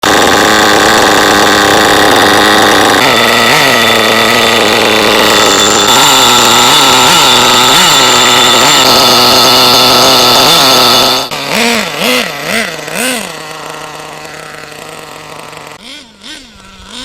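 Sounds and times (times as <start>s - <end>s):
nitro engine revving: 0.0s - 17.0s.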